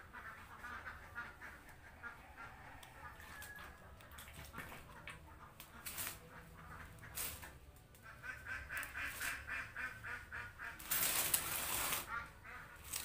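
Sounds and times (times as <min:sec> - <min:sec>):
ducks quacking: 0:00.0 - 0:03.5, 0:04.1 - 0:13.0.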